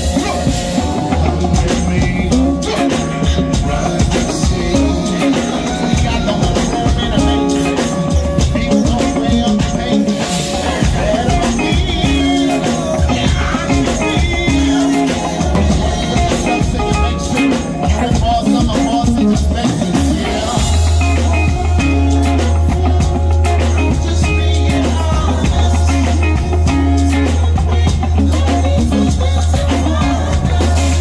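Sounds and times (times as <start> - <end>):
live band playing: 0.0 - 31.0.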